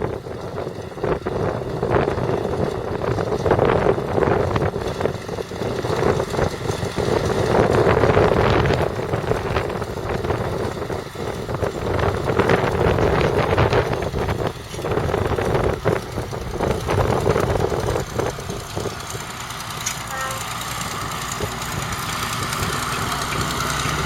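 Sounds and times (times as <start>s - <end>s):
wind buffeting microphone: 0.0s - 19.8s, 20.6s - 24.0s
diesel tractor engine running: 0.0s - 24.0s.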